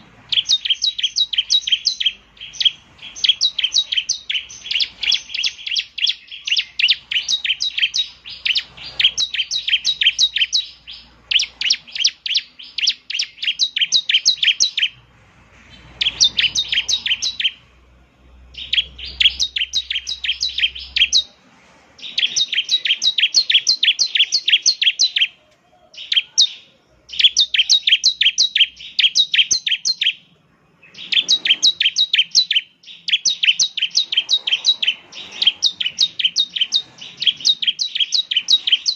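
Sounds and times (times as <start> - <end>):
bird singing sharp high notes: 0.0 - 15.0, 15.7 - 21.4, 22.0 - 38.9.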